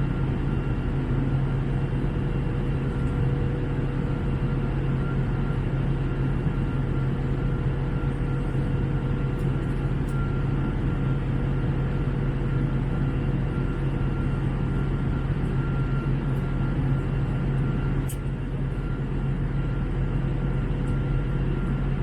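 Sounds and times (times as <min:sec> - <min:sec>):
faint steady whining tones: 0:00.0 - 0:22.0
jet engines droning: 0:00.0 - 0:22.0.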